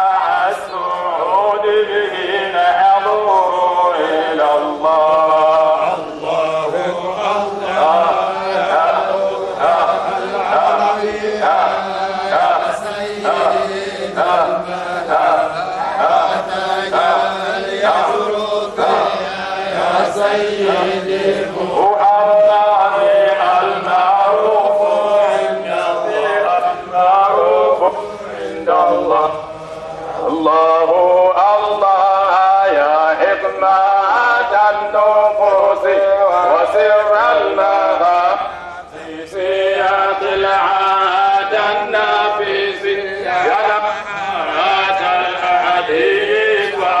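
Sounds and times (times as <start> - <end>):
man chanting devotional song: 0.0 - 47.0.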